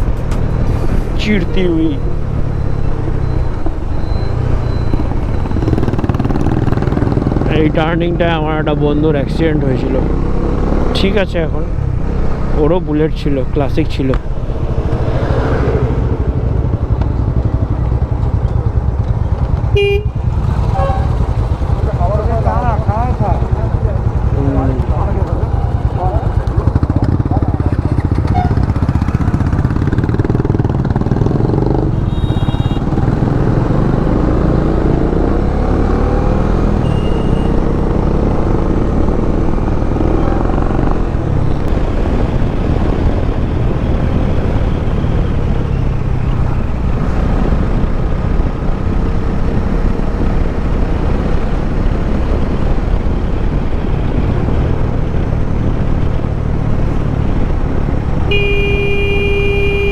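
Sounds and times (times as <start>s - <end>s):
road and wind noise: 0.0s - 59.9s
motorcycle engine running: 1.4s - 59.9s.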